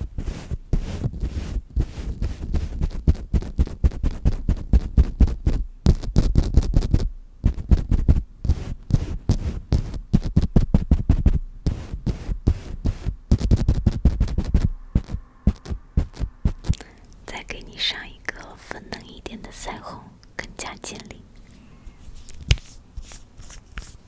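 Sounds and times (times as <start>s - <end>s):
dabbing and tapping on microphone: 0.0s - 21.5s.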